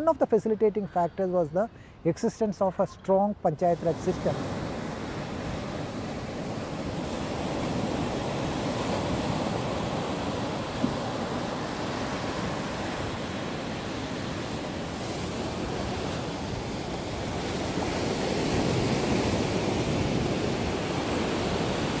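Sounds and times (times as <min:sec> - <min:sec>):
waves washing up a beach: 0:03.6 - 0:22.0.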